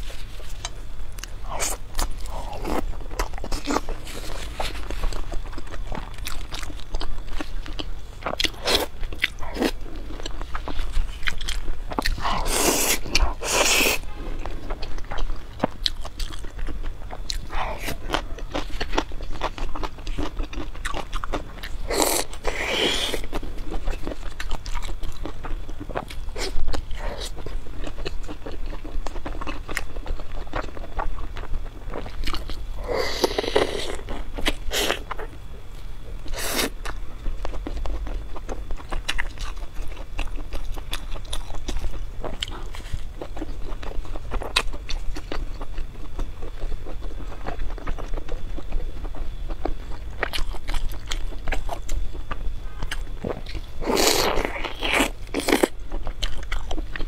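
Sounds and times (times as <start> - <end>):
person chewing and biting: 0.0 - 35.4, 36.2 - 57.0.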